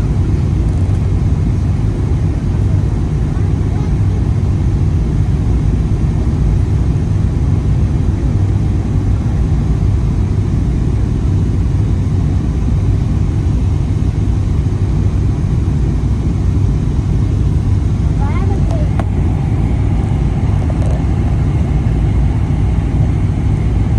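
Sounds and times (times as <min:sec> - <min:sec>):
jet engines and airflow in cabin: 0:00.0 - 0:23.9.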